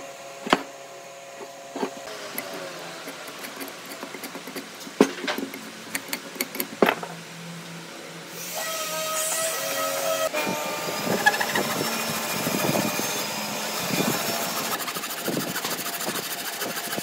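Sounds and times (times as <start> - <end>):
steady whining hum: 0.0 - 17.0.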